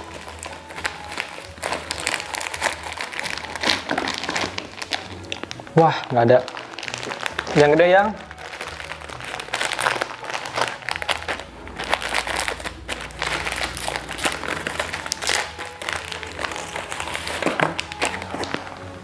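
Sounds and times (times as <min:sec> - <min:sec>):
plastic snack packet crackling: 0:00.0 - 0:19.0.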